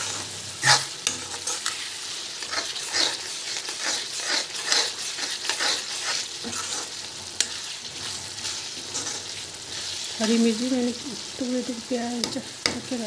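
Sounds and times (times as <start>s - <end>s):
masala sizzling in oil: 0.0s - 13.0s
spatula scraping and stirring: 0.0s - 13.0s.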